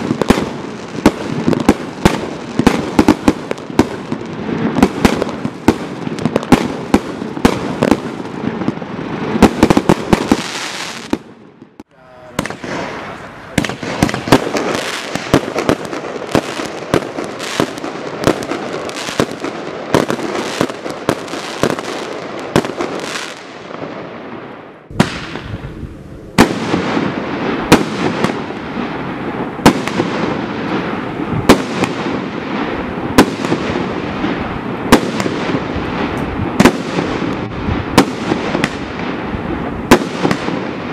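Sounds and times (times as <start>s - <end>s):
fireworks banging and crackling: 0.0s - 40.9s.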